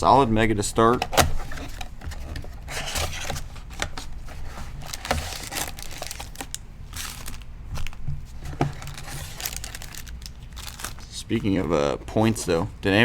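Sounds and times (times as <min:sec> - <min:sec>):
plastic wrapping crinkling and tearing: 0:00.8 - 0:12.6.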